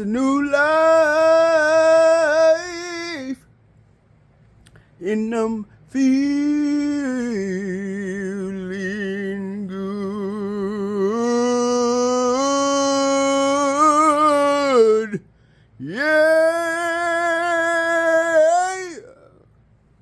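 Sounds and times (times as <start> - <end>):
person singing with vibrato: 0.0 - 3.5, 5.0 - 19.5.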